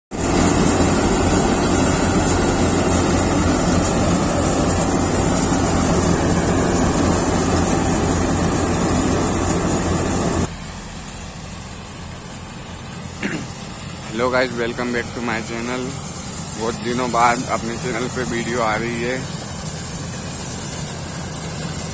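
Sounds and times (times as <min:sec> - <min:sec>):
combine harvester engine hum: 0:00.1 - 0:21.9
rushing mechanical noise: 0:00.1 - 0:21.9.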